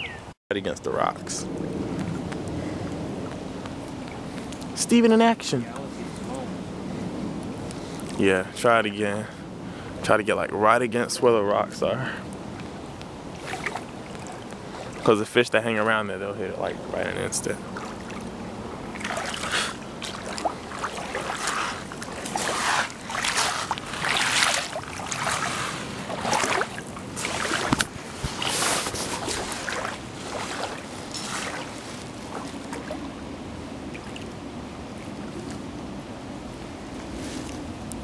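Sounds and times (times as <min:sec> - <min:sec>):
creek water running: 0:00.0 - 0:38.0.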